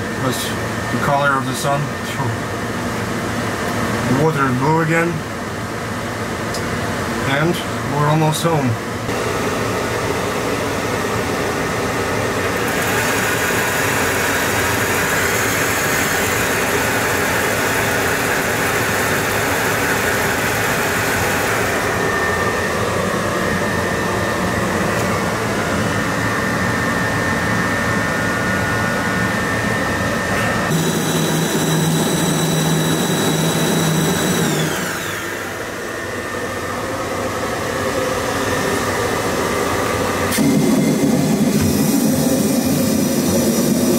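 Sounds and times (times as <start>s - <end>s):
high whines gliding down: 8.4s - 43.9s.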